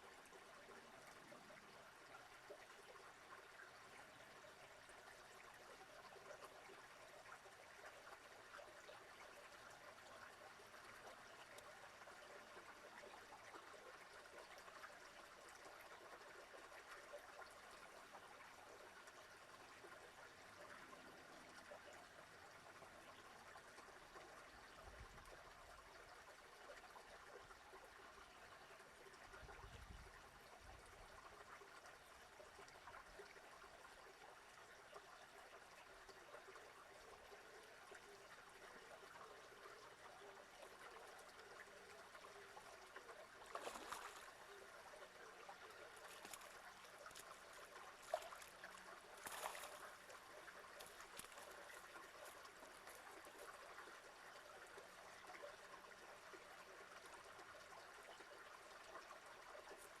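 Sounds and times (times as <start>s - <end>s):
faint trickling water: 0.0s - 60.0s.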